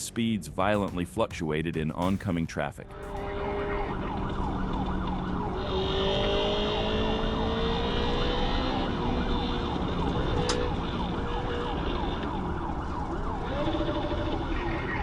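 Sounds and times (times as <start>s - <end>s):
vehicle engine and road noise: 2.8s - 15.0s
police siren yelping: 2.9s - 15.0s.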